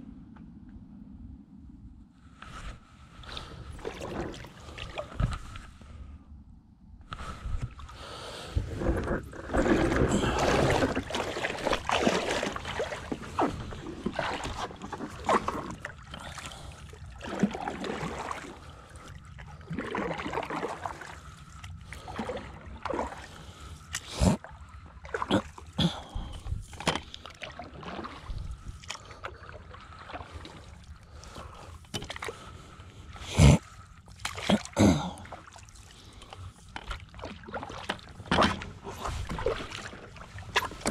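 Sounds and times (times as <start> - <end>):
paddle strokes splashing water: 3.2 - 6.0, 7.2 - 40.9.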